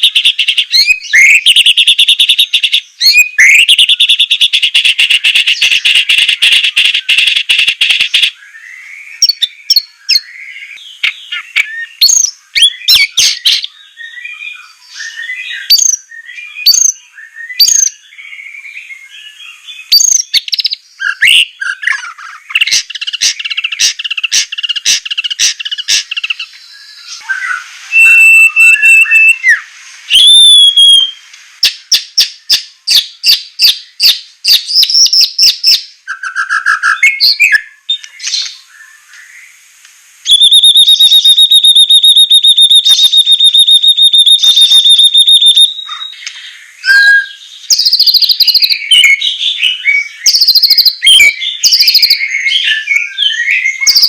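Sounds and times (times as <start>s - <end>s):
bird singing varied song: 0.0s - 39.7s, 40.3s - 54.0s.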